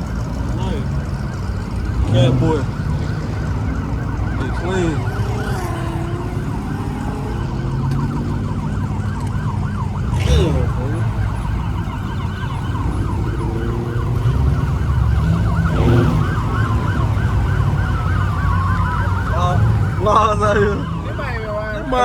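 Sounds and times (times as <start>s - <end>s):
police sirens yelping: 0.0s - 22.0s.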